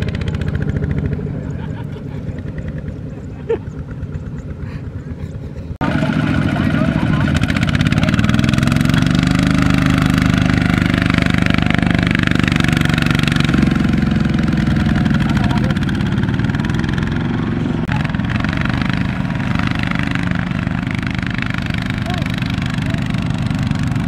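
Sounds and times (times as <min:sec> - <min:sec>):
diesel engine running hard: 0:00.0 - 0:24.0.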